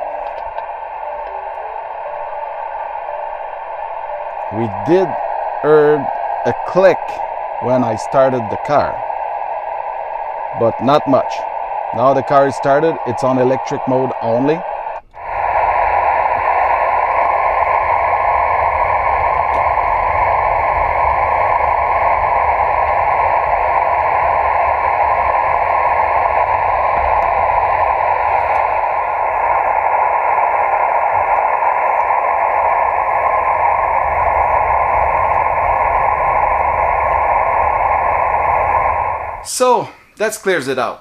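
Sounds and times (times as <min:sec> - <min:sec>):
radio static hiss: 0:00.0 - 0:41.0.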